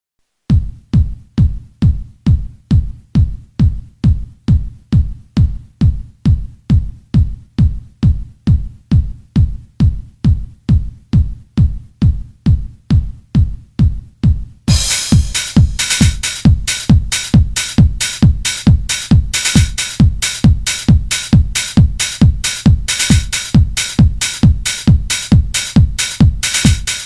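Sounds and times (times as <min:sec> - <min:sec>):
drum machine kick drum: 0:00.3 - 0:27.0.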